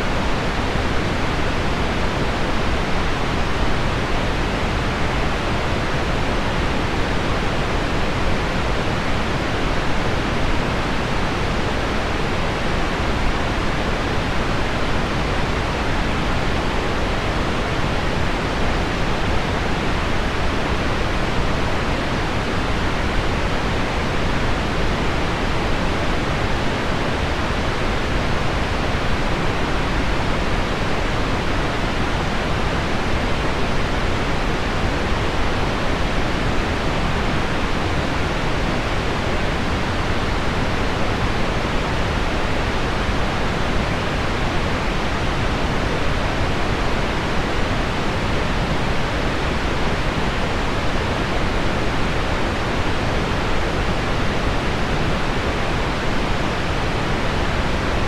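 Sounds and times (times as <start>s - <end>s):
low pink noise: 0.0s - 58.0s.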